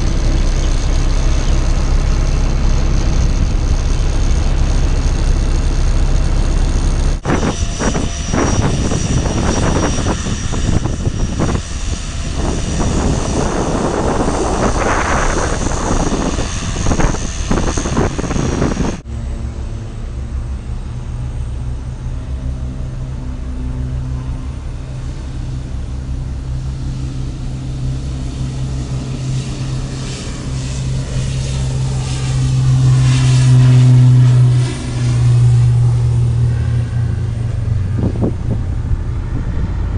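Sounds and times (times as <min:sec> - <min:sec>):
aircraft whoosh passing: 0:00.0 - 0:39.9
loud rushing aircraft engine: 0:00.0 - 0:39.9
low engine drone: 0:00.0 - 0:39.9.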